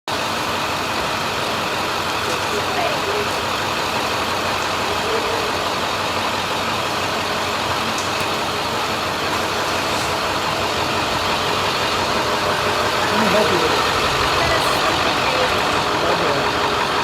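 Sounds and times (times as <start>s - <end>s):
faint distant voices: 0.1s - 17.0s
steady machine-like noise: 0.1s - 17.0s.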